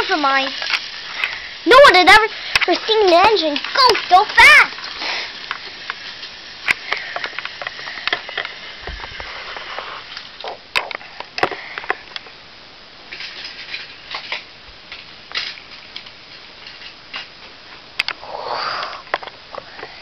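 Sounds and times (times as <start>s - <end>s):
toy trains clicking on plastic track: 0.0s - 12.3s, 13.1s - 17.3s.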